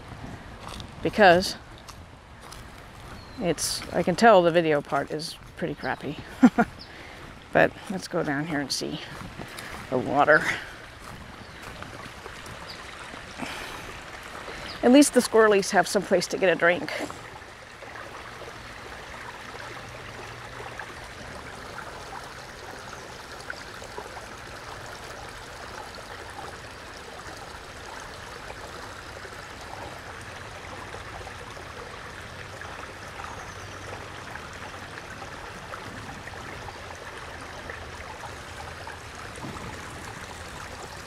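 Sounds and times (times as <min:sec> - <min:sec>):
creek trickling over stones: 0:00.0 - 0:41.0.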